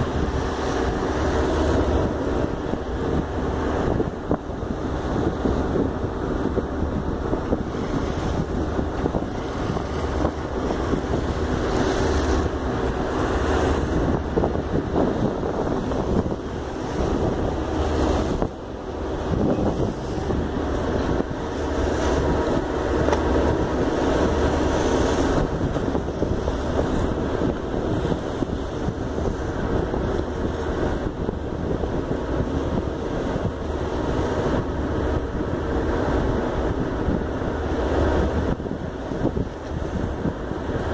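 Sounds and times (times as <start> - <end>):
water washing along hull: 0.0 - 40.9
wind buffeting microphone: 0.0 - 40.9.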